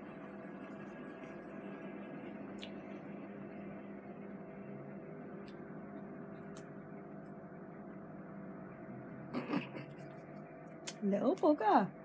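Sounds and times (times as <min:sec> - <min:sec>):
low household hum: 0:00.0 - 0:12.0.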